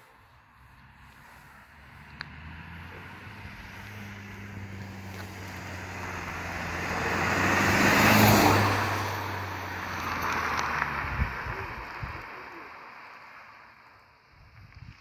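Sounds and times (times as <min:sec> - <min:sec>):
low engine hum: 0:00.0 - 0:15.0
vehicle passing by: 0:00.1 - 0:13.8.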